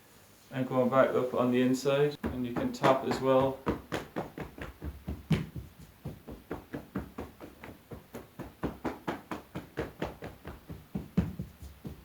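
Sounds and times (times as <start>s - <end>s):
hands patting on legs: 2.2s - 12.0s.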